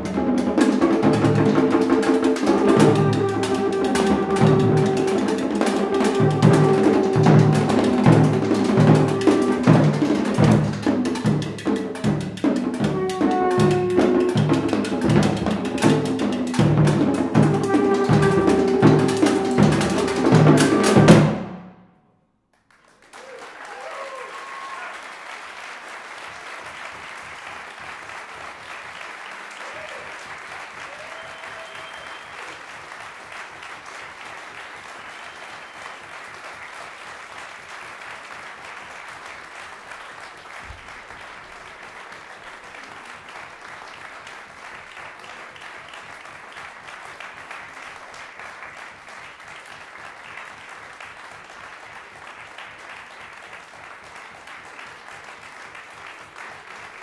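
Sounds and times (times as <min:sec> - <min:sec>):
audience applauding: 0:00.0 - 0:21.3, 0:22.5 - 0:57.0.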